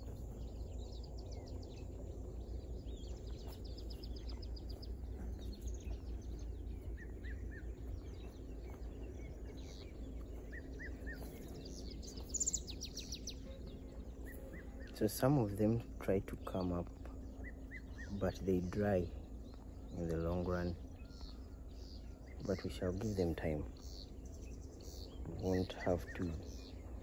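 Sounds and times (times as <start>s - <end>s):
low rumble: 0.0s - 25.5s
birds chirping and calling: 0.0s - 27.0s.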